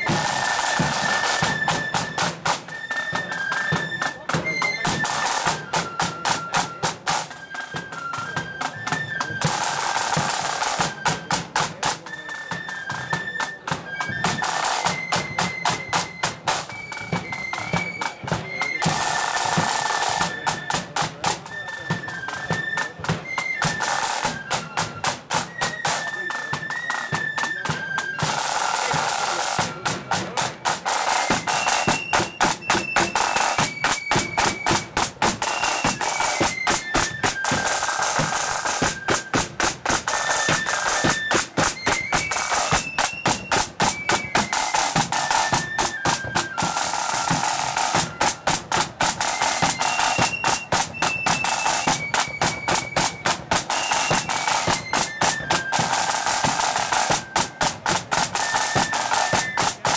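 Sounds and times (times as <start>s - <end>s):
flutes playing melody: 0.0s - 59.9s
snare drum rolls: 0.0s - 59.9s.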